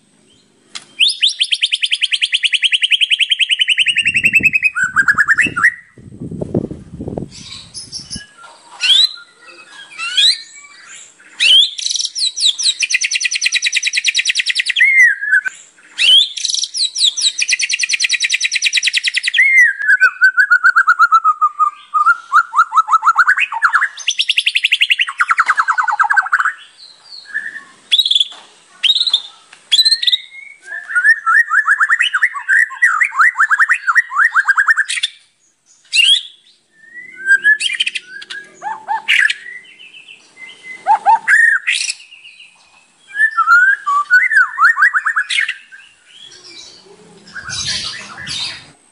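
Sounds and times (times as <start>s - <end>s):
songbird singing varied song: 0.0s - 48.9s.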